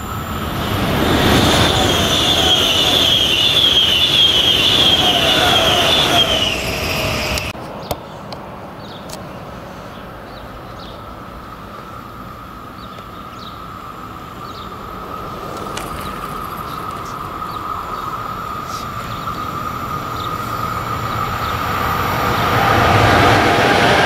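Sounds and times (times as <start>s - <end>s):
freight train rumbling: 0.0s - 7.6s, 8.2s - 24.0s.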